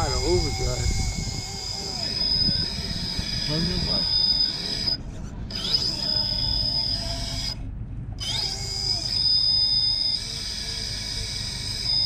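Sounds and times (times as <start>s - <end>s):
electric motor whining: 0.0s - 7.6s, 8.2s - 12.0s.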